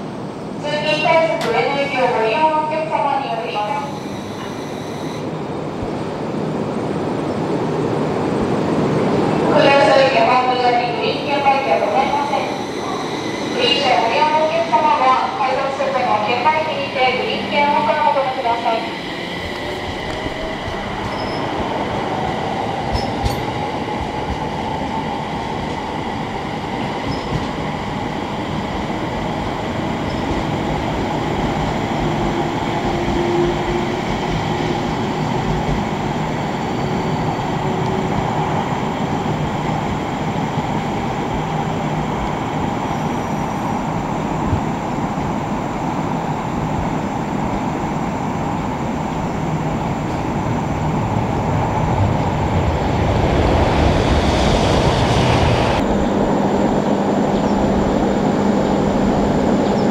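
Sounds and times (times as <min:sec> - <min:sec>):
train rumble: 0:05.3 - 0:59.9.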